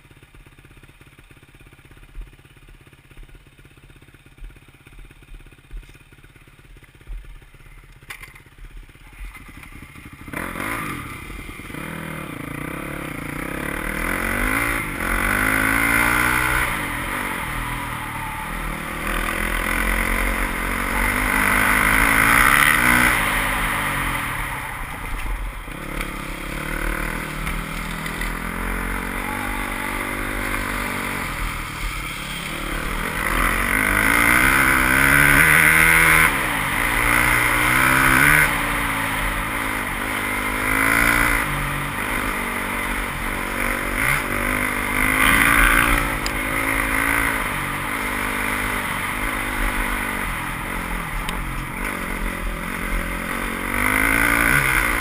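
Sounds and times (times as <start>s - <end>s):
dirt bike engine revving: 9.2s - 55.0s.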